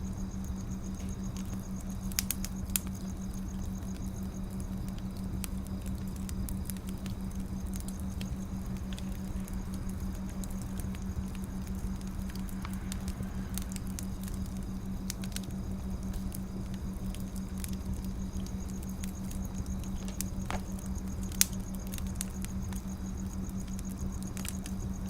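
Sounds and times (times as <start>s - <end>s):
firewood crackling and popping: 0.0s - 25.0s
steady low hum: 0.0s - 25.0s.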